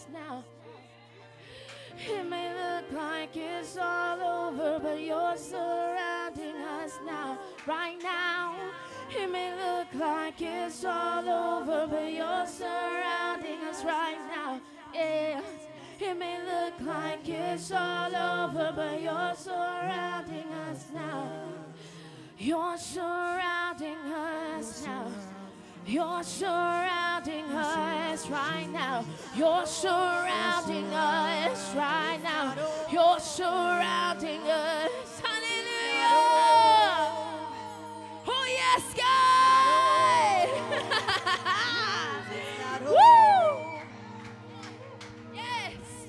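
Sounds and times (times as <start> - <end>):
people singing with vibrato: 0.0 - 46.0.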